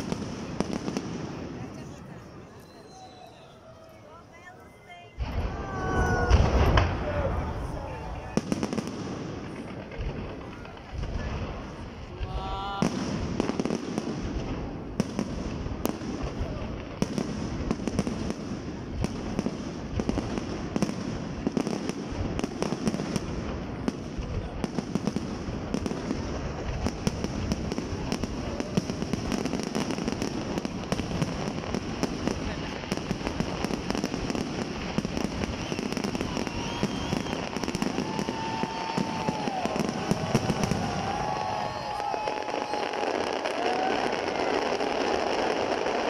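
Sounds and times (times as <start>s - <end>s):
crowd voices: 0.0s - 22.2s, 23.4s - 46.0s
fireworks bangs and crackling: 0.0s - 46.0s.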